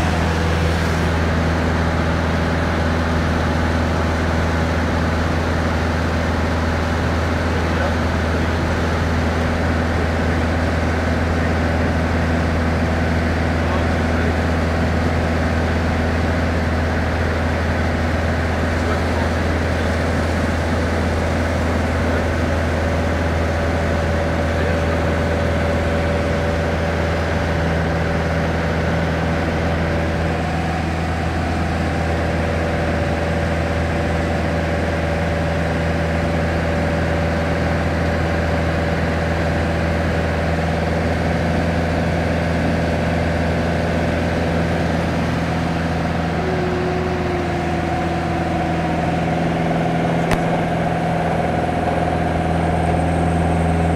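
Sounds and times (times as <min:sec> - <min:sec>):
aircraft engine and propeller droning: 0:00.0 - 0:53.9.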